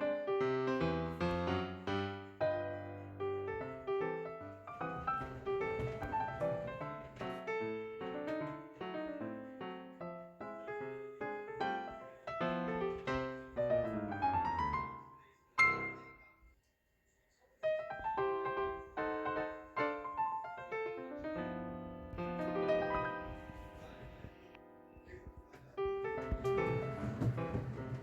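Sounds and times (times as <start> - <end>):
piano music: 0.0 - 16.3, 17.8 - 28.0.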